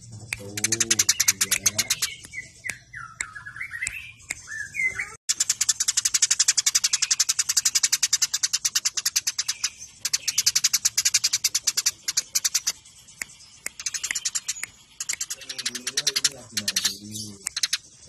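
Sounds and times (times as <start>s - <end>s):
sparrows chirping rapidly: 0.0s - 18.0s.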